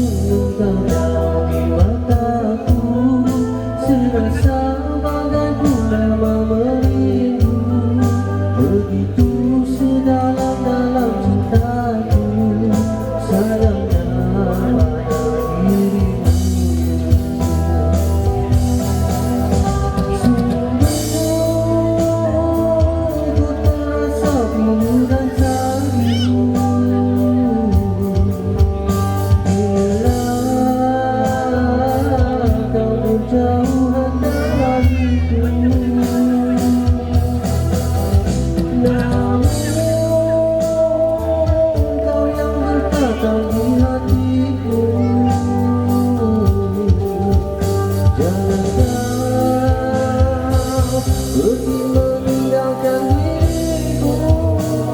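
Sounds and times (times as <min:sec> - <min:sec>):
band playing slow pop ballad: 0:00.0 - 0:54.9.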